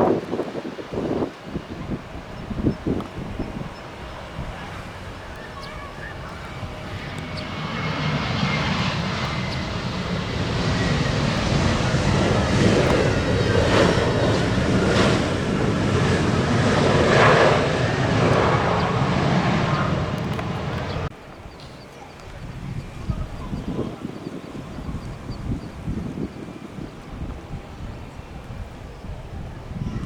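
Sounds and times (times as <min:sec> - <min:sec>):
jet engines rumbling and whining: 0:00.0 - 0:30.0.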